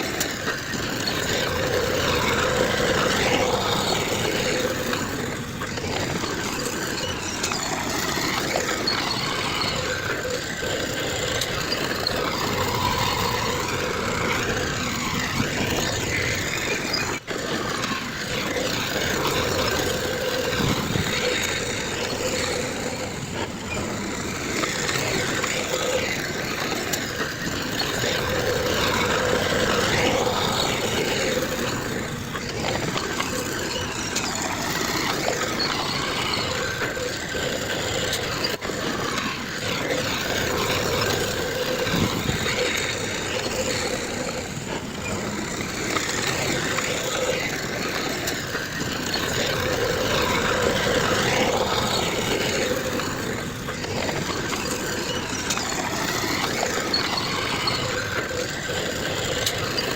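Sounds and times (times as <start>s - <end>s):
heavy diesel machines working: 0.0s - 59.9s.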